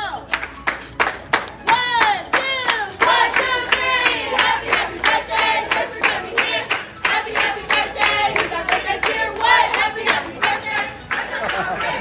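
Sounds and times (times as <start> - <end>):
rhythmic hand-clapping: 0.0 - 12.0
group of voices singing: 2.4 - 12.0.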